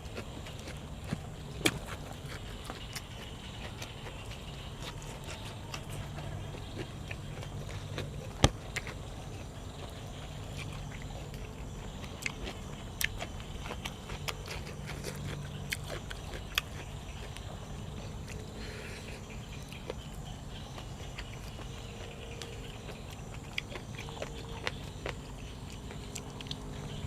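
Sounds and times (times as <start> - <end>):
person chewing: 0.0 - 27.0
steady low hum: 0.0 - 27.0.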